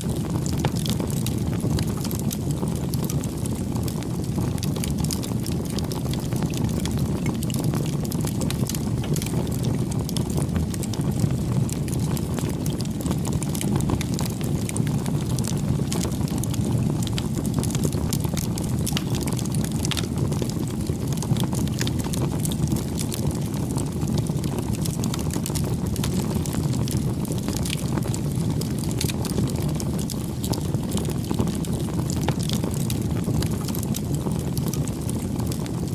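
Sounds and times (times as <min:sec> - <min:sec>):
fire crackling and popping: 0:00.0 - 0:35.9
rush of flames: 0:00.0 - 0:35.9.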